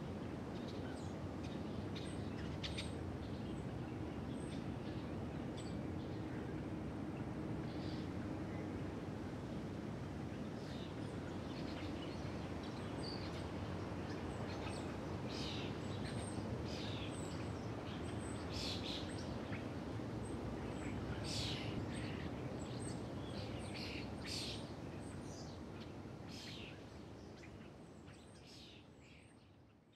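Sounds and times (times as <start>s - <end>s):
outdoor ambience hiss: 0.0s - 29.9s.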